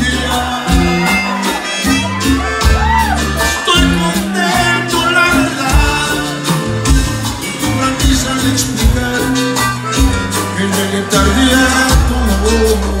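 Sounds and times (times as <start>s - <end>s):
accordion and guitar band music: 0.0s - 13.0s
person singing: 0.0s - 13.0s.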